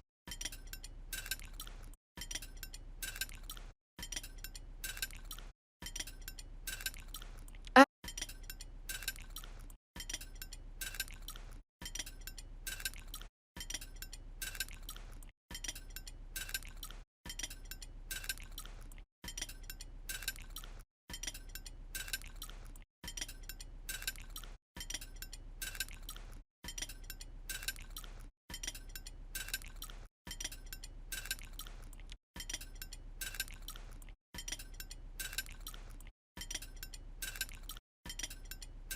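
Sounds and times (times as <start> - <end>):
light clicking and clinking: 0.3 - 38.9.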